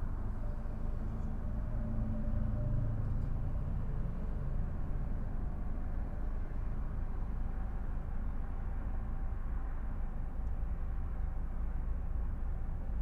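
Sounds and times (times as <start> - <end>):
car engine and road noise: 0.0 - 13.0
faint engine hum: 0.0 - 13.0.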